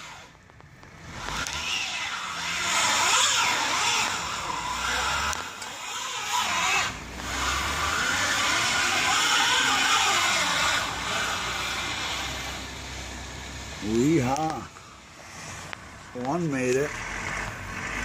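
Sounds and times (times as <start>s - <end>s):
car engine revving: 0.0s - 18.0s
car tyres spinning on ice: 0.0s - 18.0s.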